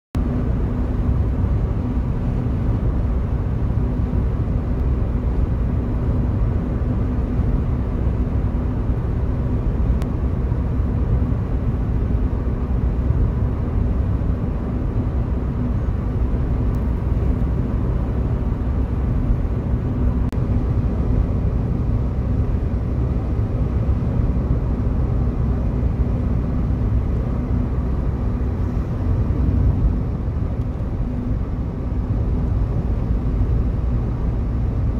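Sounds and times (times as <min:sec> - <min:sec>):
wind and road noise rumble: 0:00.2 - 0:34.9.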